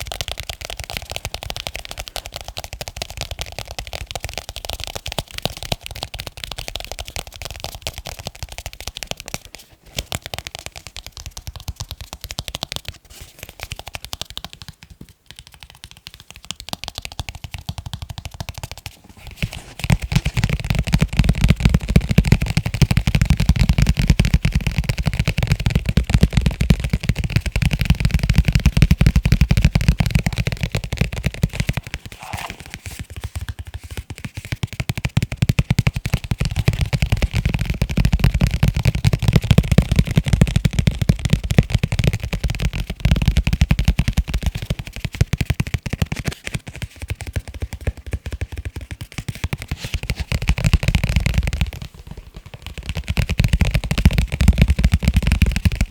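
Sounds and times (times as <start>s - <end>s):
fast tapping on leather cases: 0.0s - 55.9s.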